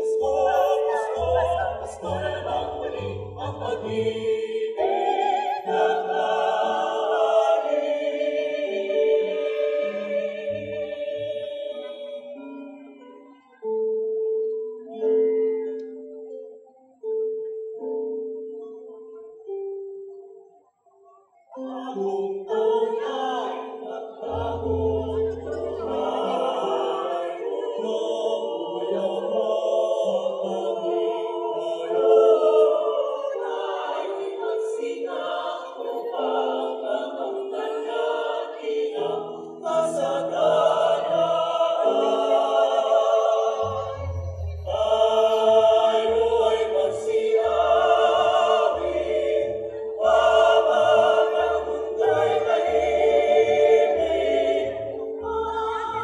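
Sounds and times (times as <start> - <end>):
mixed choir singing in parts: 0.0 - 13.8, 21.5 - 56.0.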